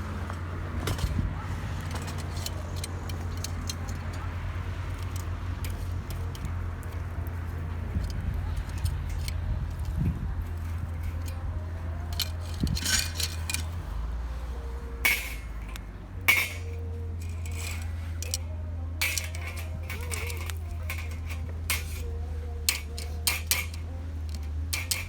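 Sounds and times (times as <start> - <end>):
metal utensils clinking: 0.0 - 25.0
steady low hum: 0.0 - 25.0.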